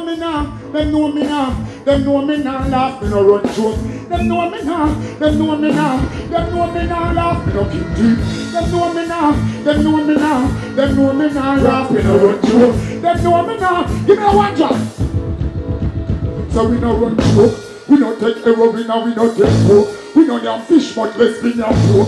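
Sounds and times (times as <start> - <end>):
man singing and chanting: 0.0 - 15.0, 16.5 - 22.0
reggae backing track with heavy beat: 0.0 - 22.0.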